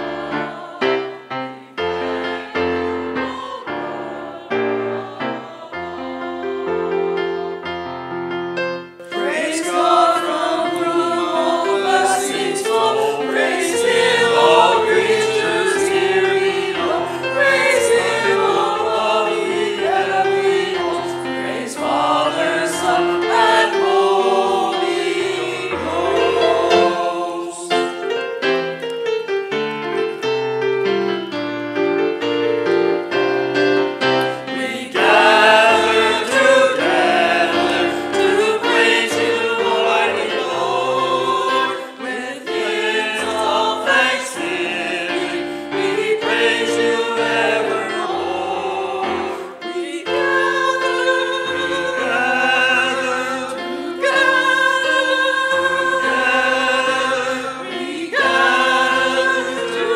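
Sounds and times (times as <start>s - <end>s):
choir singing a hymn: 0.0s - 28.8s, 32.7s - 59.9s
piano accompaniment: 0.0s - 59.9s.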